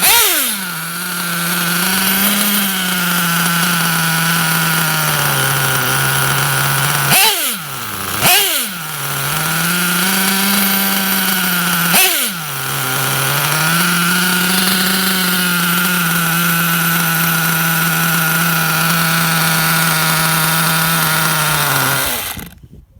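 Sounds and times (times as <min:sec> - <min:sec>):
model car nitro engine revving: 0:00.0 - 0:22.6.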